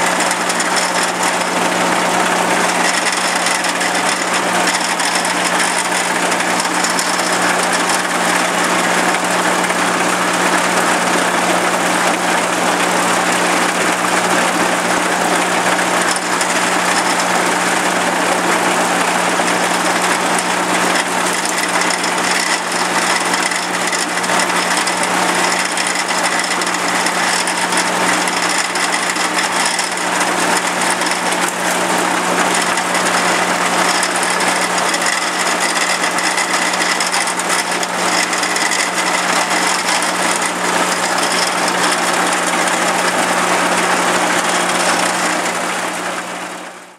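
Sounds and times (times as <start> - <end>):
farm machinery engine drone: 0.0 - 46.9.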